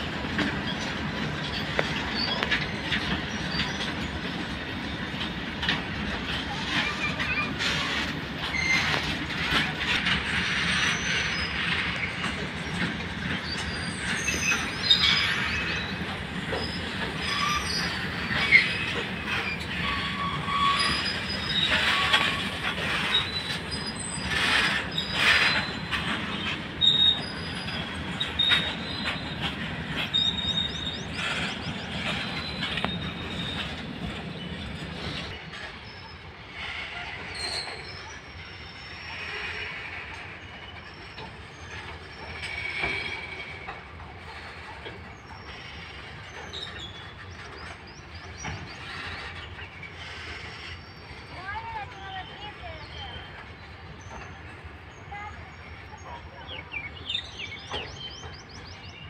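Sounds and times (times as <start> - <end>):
train wheels rumbling: 0.0 - 59.0
high wheel squeals: 6.3 - 55.9.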